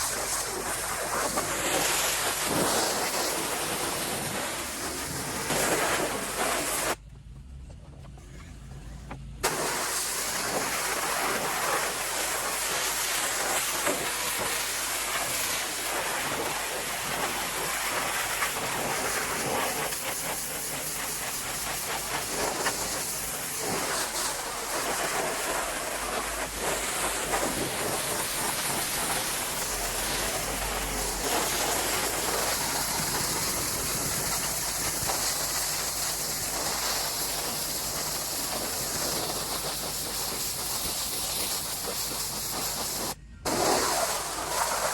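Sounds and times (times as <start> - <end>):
water jet spraying on wood: 0.0 - 7.0, 9.4 - 44.9
pressure washer engine hum: 0.0 - 44.9.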